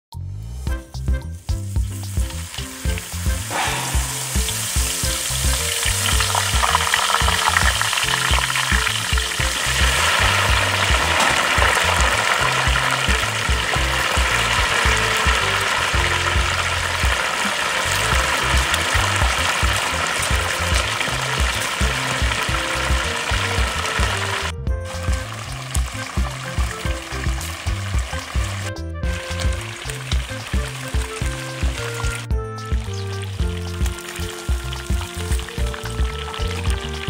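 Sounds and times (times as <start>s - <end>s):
oil sizzling in a wok: 1.4s - 37.0s.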